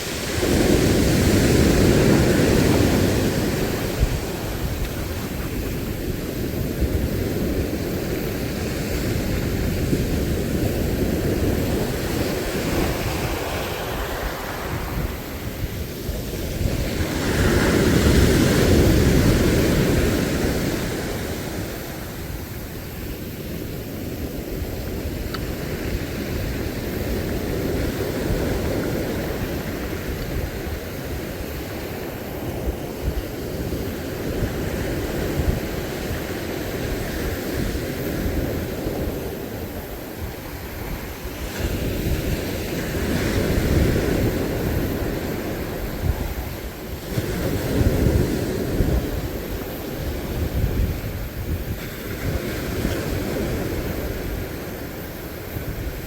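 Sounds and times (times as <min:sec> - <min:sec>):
sea surf washing ashore: 0:00.0 - 0:56.0
wind on microphone: 0:00.0 - 0:56.0.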